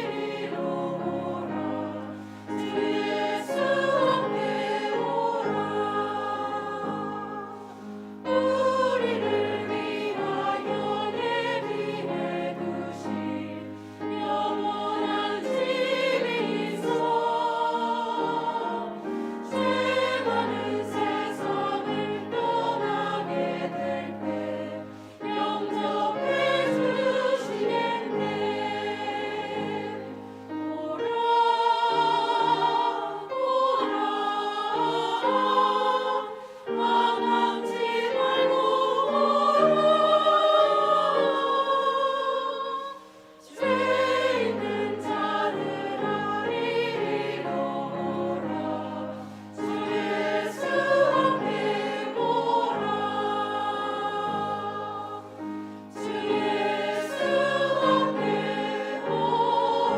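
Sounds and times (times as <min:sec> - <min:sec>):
church choir singing a hymn: 0:00.0 - 0:59.9.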